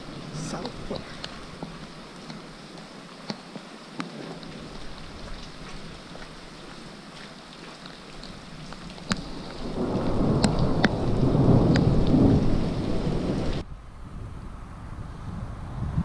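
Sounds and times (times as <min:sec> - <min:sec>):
thunder rumbling: 0:00.0 - 0:02.6, 0:04.1 - 0:07.0, 0:08.4 - 0:16.0
rain on cobbled street: 0:00.0 - 0:13.7.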